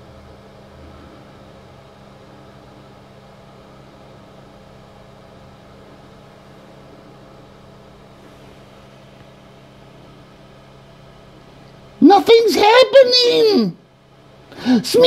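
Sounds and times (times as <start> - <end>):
computer fan whir: 0.0 - 15.0
low electrical hum: 0.0 - 15.0.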